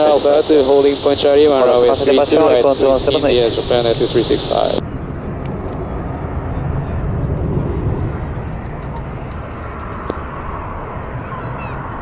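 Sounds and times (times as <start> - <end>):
distant jet engines rumbling: 0.0 - 12.0.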